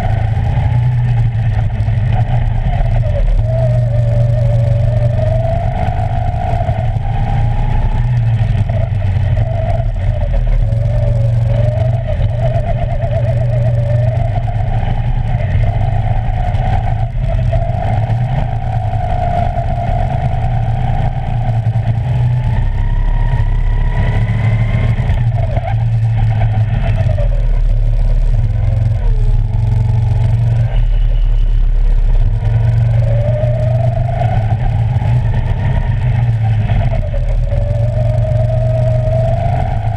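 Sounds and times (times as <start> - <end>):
go-kart motor revving: 0.0 - 39.9
heavy low rumble: 0.0 - 39.9.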